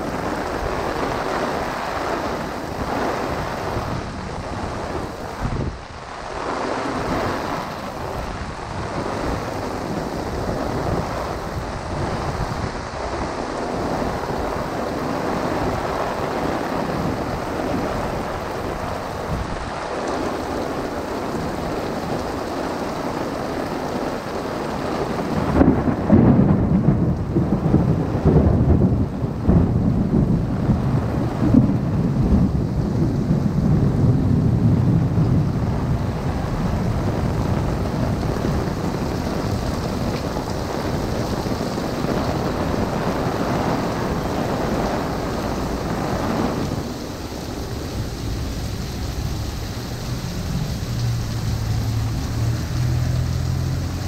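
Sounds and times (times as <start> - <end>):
deep thunder rumble: 0.0 - 54.0
heavy rain on umbrella: 0.0 - 54.0.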